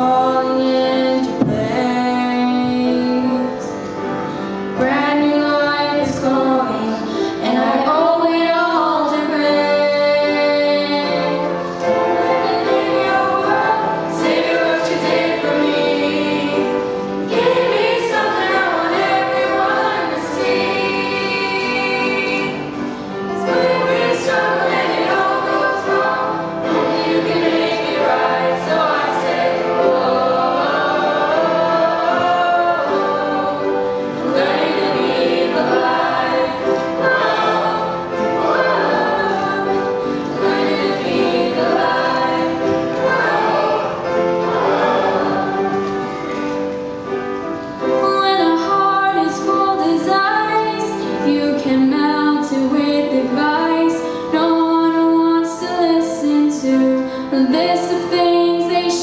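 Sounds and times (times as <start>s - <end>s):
girls singing a hymn: 0.0s - 46.7s, 47.4s - 59.0s.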